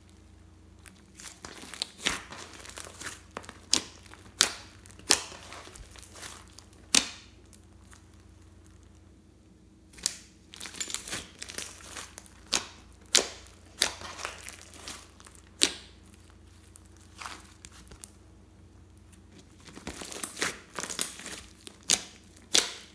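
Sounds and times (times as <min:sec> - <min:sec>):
slime crackling: 0:00.0 - 0:09.2, 0:09.9 - 0:18.2, 0:18.8 - 0:22.9.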